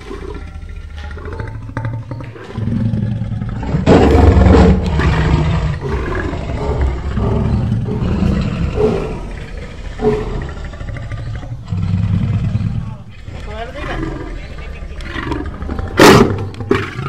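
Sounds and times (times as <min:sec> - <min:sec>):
lion roaring: 0:00.0 - 0:17.0.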